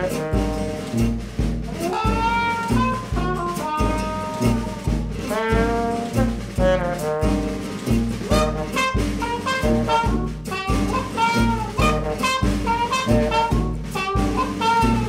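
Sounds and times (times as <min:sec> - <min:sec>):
upbeat jazz music: 0:00.0 - 0:15.0.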